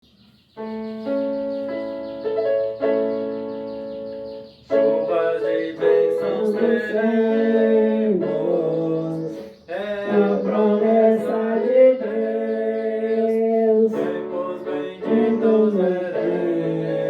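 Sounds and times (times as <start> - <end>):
keyboard playing hymn chords: 0.0 - 17.0.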